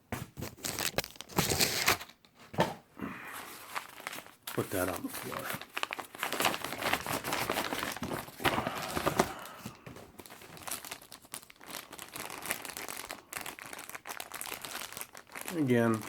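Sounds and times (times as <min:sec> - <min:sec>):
packaging crinkling: 0:00.4 - 0:02.2, 0:03.4 - 0:16.0.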